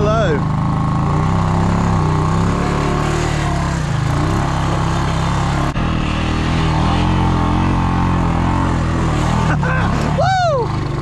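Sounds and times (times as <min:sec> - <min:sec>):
atv engine running under load: 0:00.0 - 0:11.0.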